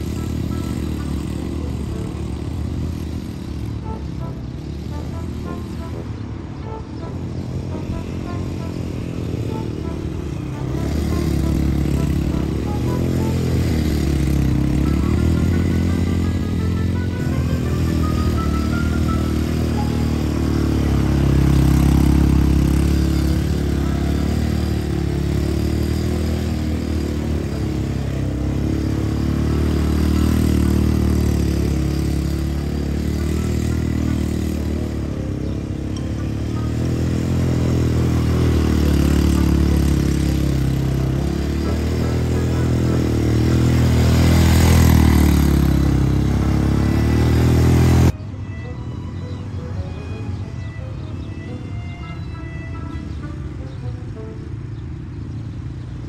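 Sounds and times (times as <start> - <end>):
quad bike engine revving: 0.0 - 48.2.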